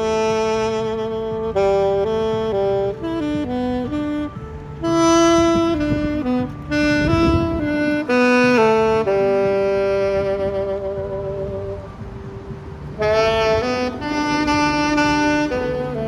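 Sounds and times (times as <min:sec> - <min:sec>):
street musician playing slow melody: 0:00.0 - 0:16.0.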